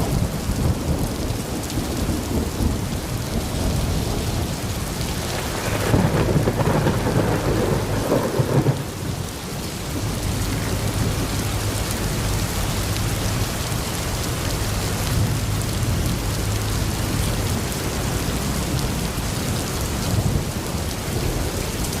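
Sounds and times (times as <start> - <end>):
steady rain falling: 0.0 - 22.0
thunder rumbling: 0.0 - 22.0.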